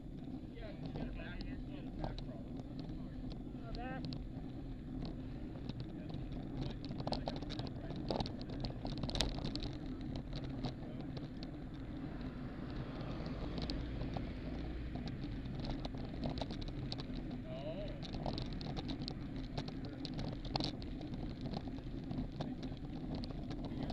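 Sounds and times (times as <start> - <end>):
bicycle tyre noise: 0.0 - 23.9
car approaching: 0.0 - 23.9
light clicks and ticks: 0.0 - 23.9.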